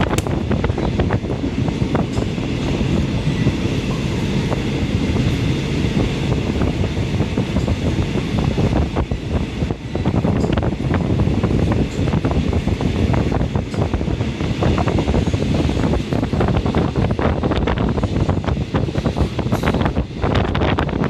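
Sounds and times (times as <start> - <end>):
train rumbling: 0.0 - 21.0
wind noise: 0.0 - 21.0.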